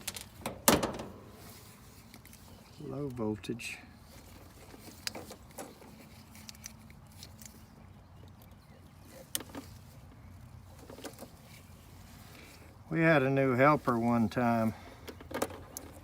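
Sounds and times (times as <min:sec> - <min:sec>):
compressor and fan humming: 0:00.0 - 0:16.0.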